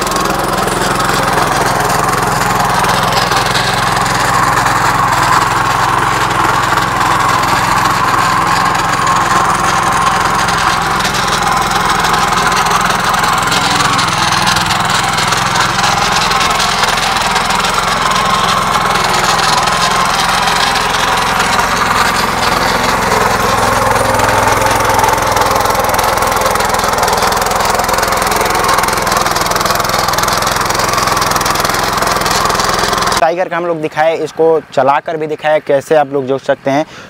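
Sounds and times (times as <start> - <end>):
tines digging through soil: 0.0 - 33.2
tiller engine running: 0.0 - 35.4.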